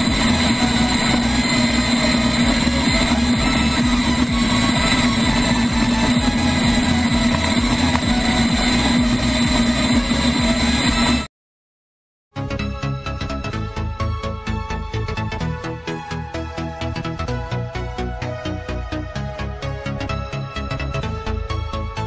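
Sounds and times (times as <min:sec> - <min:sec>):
steady engine drone: 0:00.0 - 0:11.3, 0:12.5 - 0:22.0.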